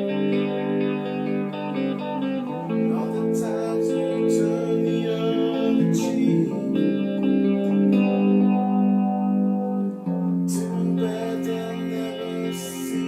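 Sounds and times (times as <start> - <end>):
guitar: 0.0 - 13.0.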